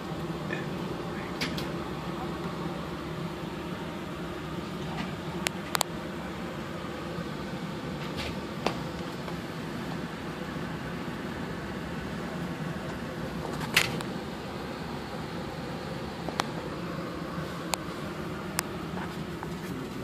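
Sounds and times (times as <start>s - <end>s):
fans humming: 0.0s - 20.0s.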